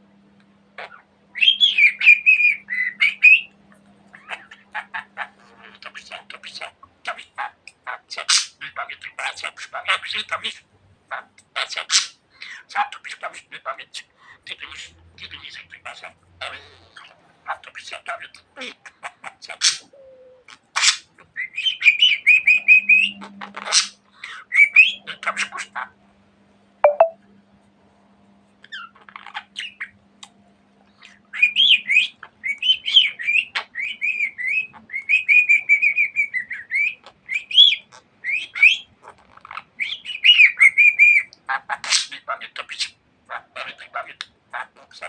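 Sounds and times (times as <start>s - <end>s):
budgerigar warbling and chattering: 4.1s - 25.9s, 28.7s - 29.9s, 30.9s - 45.0s.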